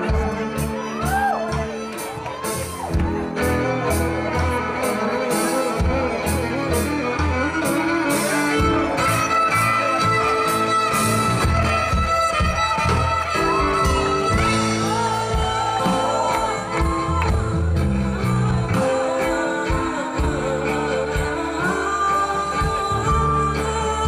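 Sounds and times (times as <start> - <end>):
fiddle holding high note: 0.0 - 23.5
live band playing: 0.0 - 24.0.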